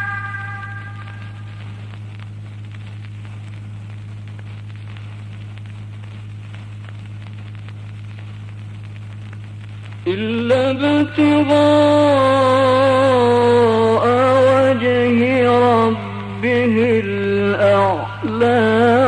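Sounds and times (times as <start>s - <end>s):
crackle clicks: 0.0s - 19.0s
electrical hum with hiss: 0.0s - 19.0s.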